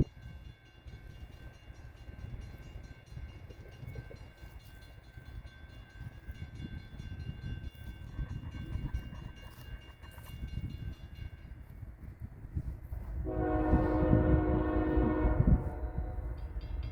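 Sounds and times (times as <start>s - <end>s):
freight train rumbling: 0.0s - 16.9s.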